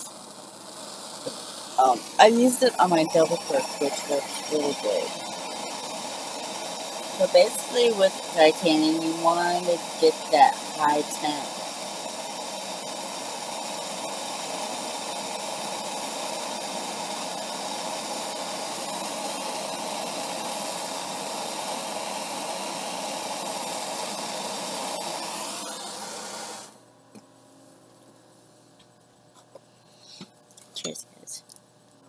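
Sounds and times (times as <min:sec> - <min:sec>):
torch flame hissing: 0:00.0 - 0:26.8.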